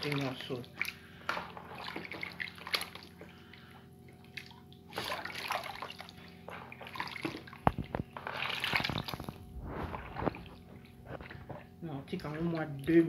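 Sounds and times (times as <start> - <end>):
water sloshing in bowl: 0.0 - 13.0.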